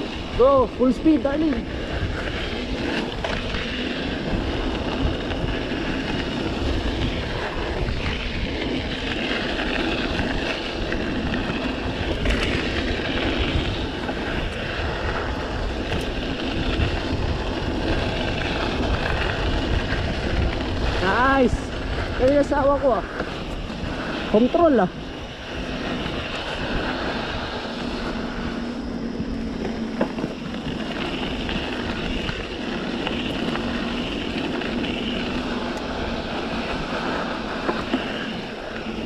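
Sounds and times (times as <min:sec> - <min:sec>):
wind rush on microphone: 0:00.0 - 0:39.0.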